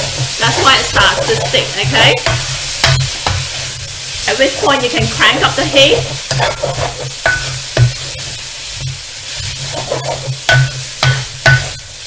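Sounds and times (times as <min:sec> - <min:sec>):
noodles sizzling in a wok: 0:00.0 - 0:12.0
spatula scraping a wok: 0:00.0 - 0:12.0.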